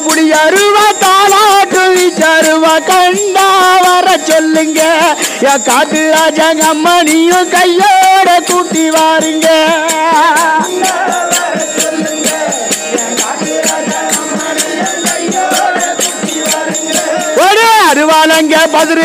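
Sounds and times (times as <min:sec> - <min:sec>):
group singing devotional song: 0:00.0 - 0:18.0
hand drums beating: 0:00.0 - 0:19.0.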